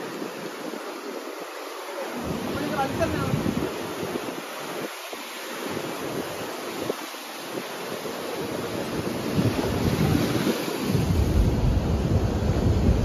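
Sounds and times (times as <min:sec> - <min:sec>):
surf breaking against rocks: 0:00.0 - 0:13.0
wind rumbling on microphone: 0:00.0 - 0:13.0.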